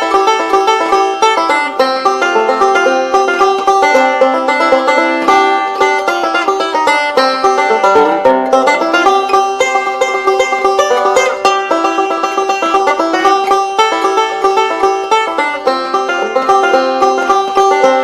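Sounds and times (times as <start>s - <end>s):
fast banjo bluegrass music: 0.0s - 18.0s.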